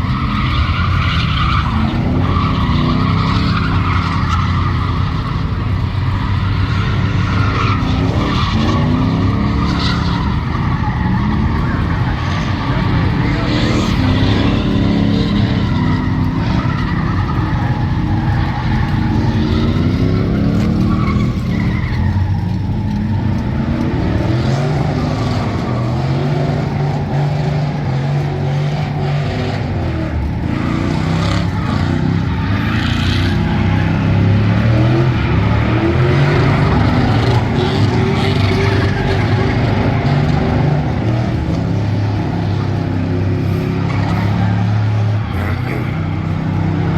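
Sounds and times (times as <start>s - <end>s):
truck engine revving high: 0.0s - 46.9s
tyres spinning and squealing: 0.0s - 46.9s.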